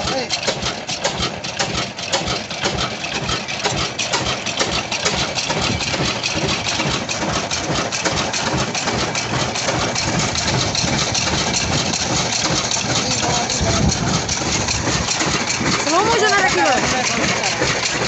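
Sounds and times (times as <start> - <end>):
stationary diesel engine running: 0.0 - 18.0.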